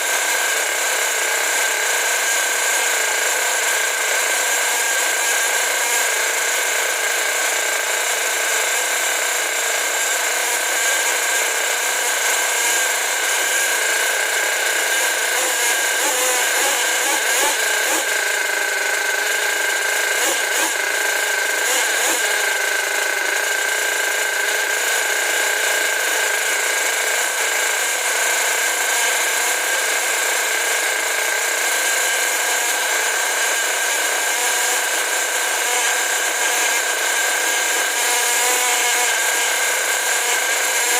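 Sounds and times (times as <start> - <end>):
model engine high-pitched whine: 0.0 - 40.9.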